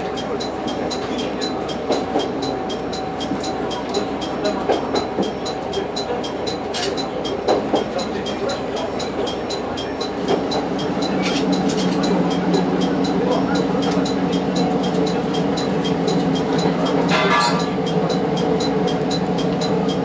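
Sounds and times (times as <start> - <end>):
train engine humming: 0.0 - 20.0.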